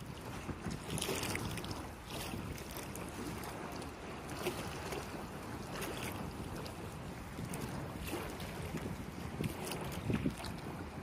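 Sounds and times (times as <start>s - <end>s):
river water splashing past boat: 0.0s - 11.0s
wind buffeting microphone: 0.0s - 11.0s.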